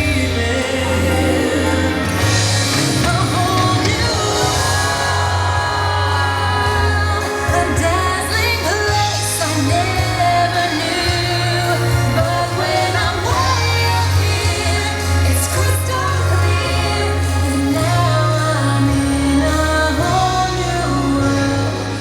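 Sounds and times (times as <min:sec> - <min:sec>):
soundtrack music with singing: 0:00.0 - 0:22.0.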